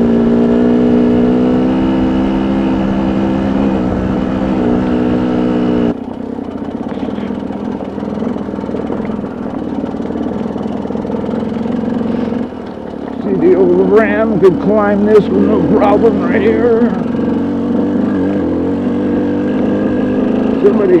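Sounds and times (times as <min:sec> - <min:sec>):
pickup truck engine running: 0:02.5 - 0:21.0.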